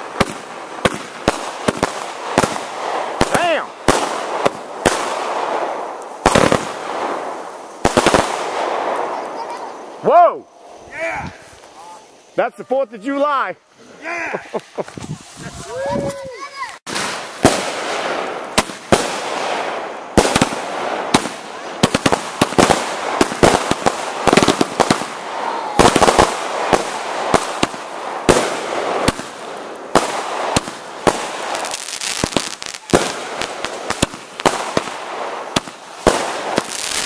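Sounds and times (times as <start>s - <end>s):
fireworks bangs: 0.0s - 37.0s
fireworks hissing crackle: 0.0s - 37.0s.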